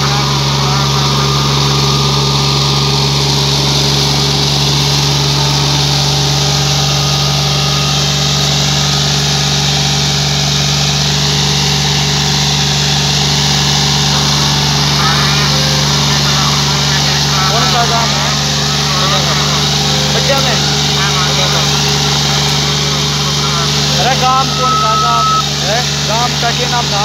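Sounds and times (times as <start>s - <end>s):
diesel tractor engine under load: 0.0s - 27.0s.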